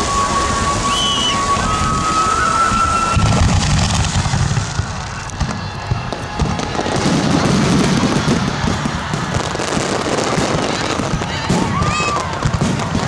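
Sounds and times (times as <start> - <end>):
fireworks crackling and popping: 0.0 - 13.0
sharp fireworks bangs: 0.0 - 13.0.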